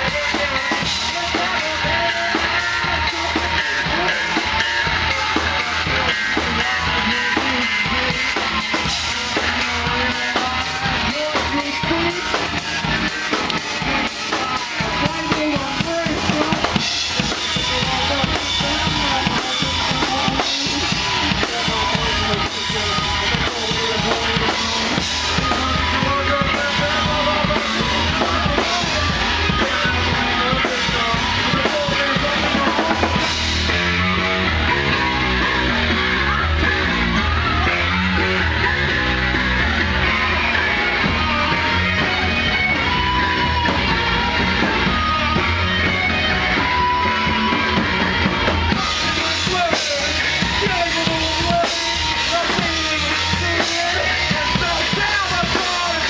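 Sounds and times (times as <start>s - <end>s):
bass drum and snare: 0.0s - 56.0s
live rock band playing: 0.0s - 56.0s.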